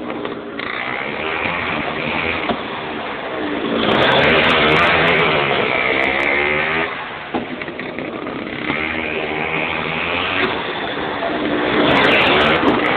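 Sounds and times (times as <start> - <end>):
two-stroke kart engine revving: 0.0 - 12.9.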